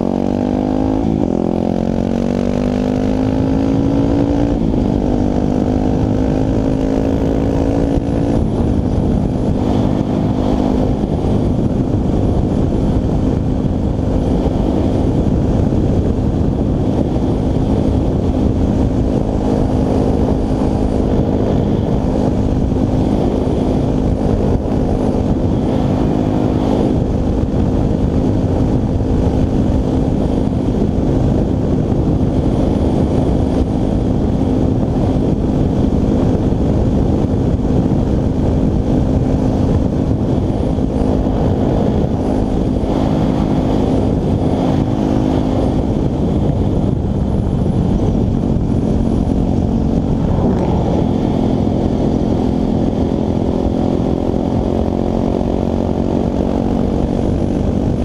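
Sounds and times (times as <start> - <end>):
dirt bike engine running: 0.0 - 58.0
wind rushing: 0.0 - 58.0.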